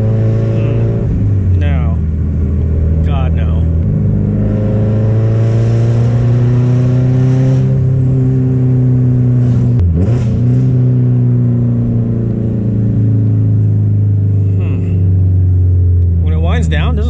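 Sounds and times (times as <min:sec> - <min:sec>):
car engine with raspy exhaust: 0:00.0 - 0:17.0.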